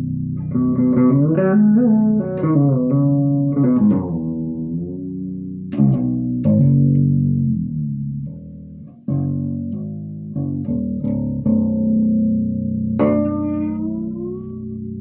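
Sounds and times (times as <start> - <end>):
fretless bass guitar notes: 0.0 - 15.0.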